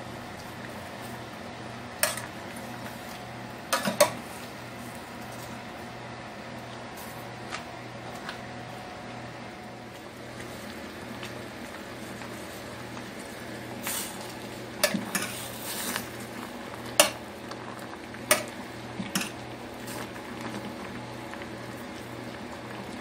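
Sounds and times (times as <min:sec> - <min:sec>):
water boiling in a pot: 0:00.0 - 0:23.0.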